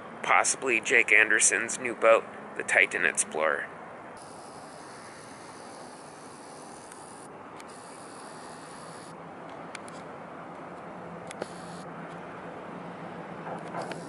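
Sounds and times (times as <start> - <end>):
harbour background hiss: 0.0 - 14.0.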